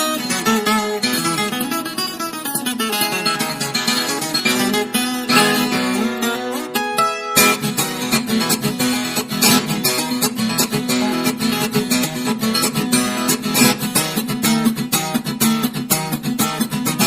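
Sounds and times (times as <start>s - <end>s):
fast acoustic guitar music: 0.0s - 17.0s.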